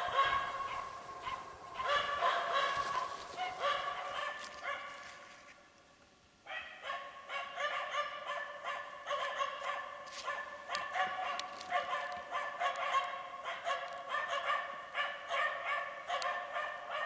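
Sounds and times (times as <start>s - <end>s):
dog barking rapidly: 0.0s - 5.1s, 6.5s - 17.0s.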